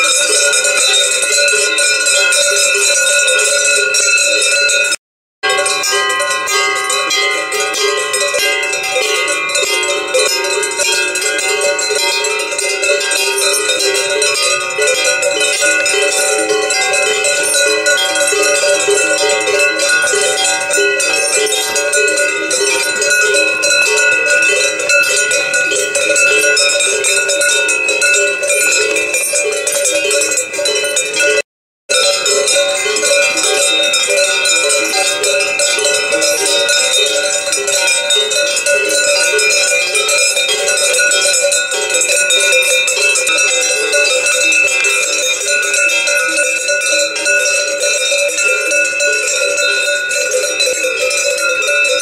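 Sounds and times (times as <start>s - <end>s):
cowbells jangling: 0.0s - 52.0s.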